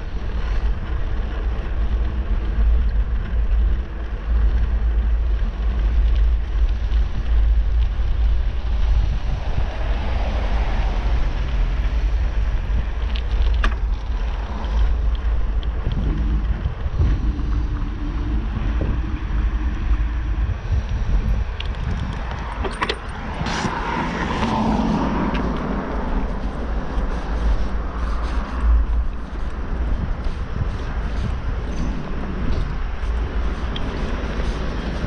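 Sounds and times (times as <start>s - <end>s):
tyre noise on asphalt: 0.0s - 35.0s
wind rumbling on microphone: 0.0s - 35.0s.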